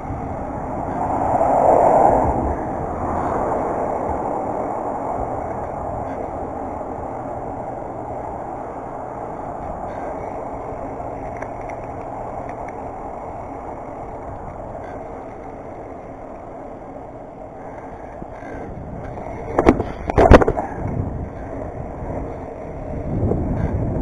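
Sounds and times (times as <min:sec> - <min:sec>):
bike tyre and wind rushing: 0:00.0 - 0:24.0.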